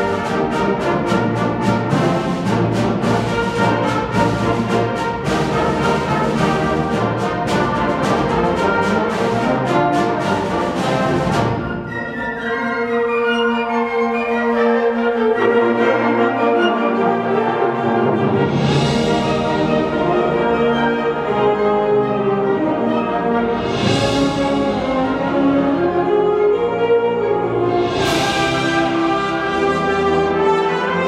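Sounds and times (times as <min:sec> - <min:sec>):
symphonic band brass chords: 0:00.0 - 0:31.0.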